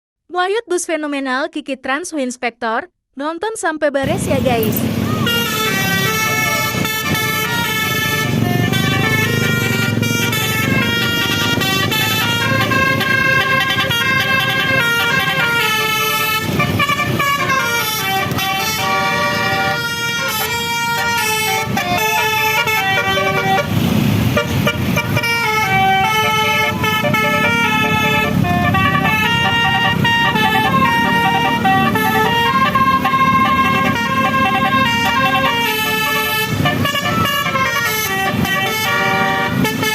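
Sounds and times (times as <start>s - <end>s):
bus engine running low: 4.0s - 39.9s
multi-tone musical bus horn: 5.1s - 39.9s.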